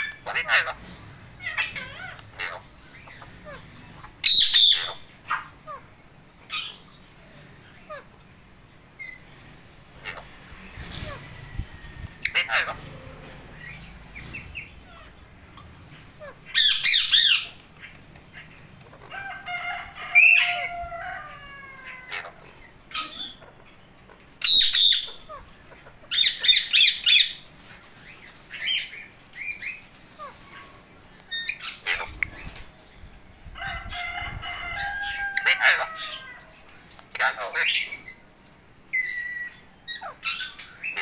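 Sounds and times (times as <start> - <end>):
parakeet talking and squawking: 0.0 - 32.9, 33.6 - 38.3, 38.9 - 41.0.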